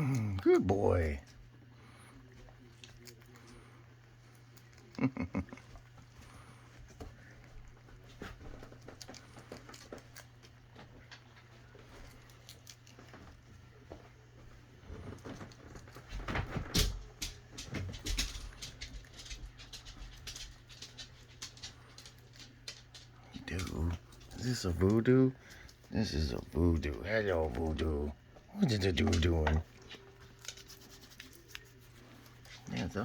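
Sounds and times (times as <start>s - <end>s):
rabbit crunching snacks: 0.0s - 33.0s.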